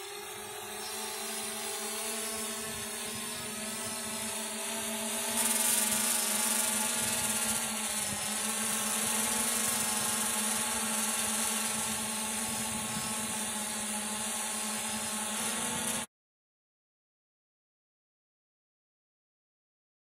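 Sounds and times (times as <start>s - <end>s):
drone motors whining: 0.0s - 16.1s.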